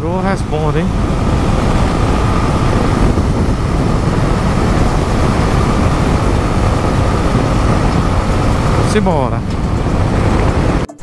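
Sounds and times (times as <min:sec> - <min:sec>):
motorcycle cruising: 0:00.0 - 0:11.0
wind rush on microphone: 0:00.0 - 0:11.0.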